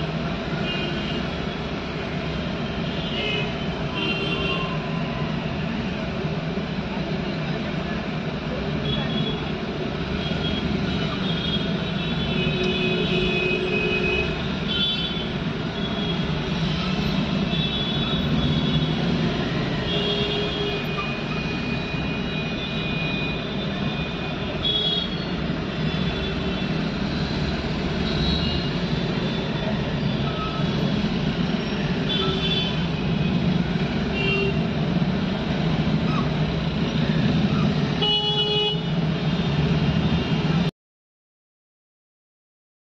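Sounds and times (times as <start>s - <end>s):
traffic engines rumbling: 0.0s - 40.7s.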